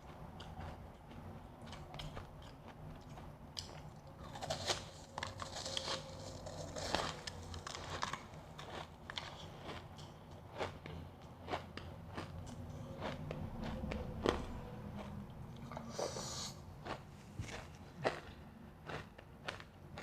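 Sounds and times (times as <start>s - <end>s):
ice being chewed: 0.0s - 20.0s.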